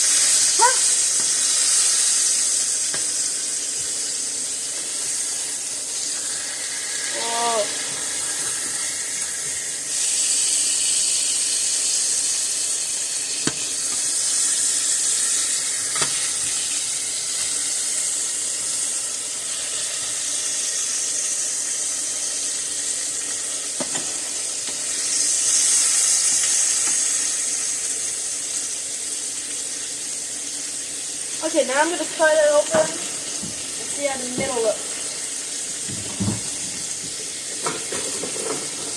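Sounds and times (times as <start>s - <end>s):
steaks sizzling in a pan: 0.0s - 38.9s.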